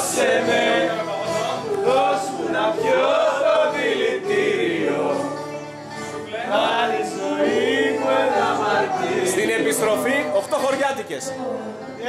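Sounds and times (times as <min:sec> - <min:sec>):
men singing together: 0:00.0 - 0:11.9.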